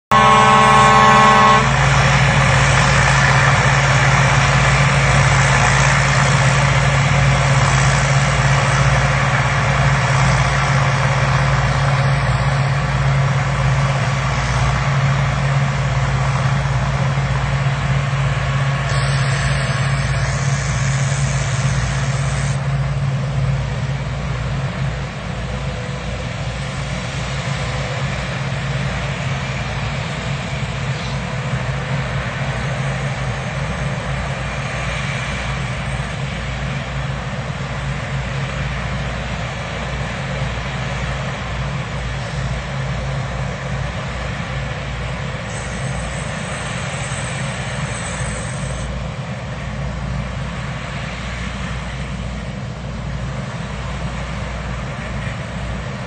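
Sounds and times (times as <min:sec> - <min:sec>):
combine harvester running: 0:00.1 - 0:56.0.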